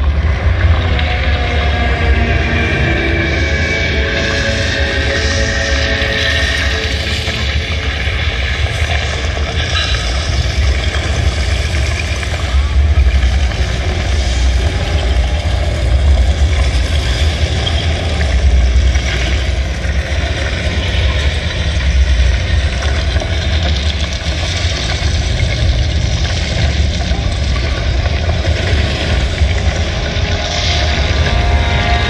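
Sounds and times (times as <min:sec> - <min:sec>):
deep rumbling soundtrack over speakers: 0:00.0 - 0:32.0.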